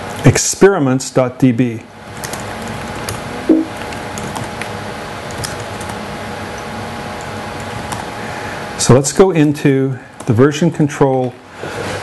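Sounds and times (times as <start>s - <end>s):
room noise hum: 0.0s - 12.0s.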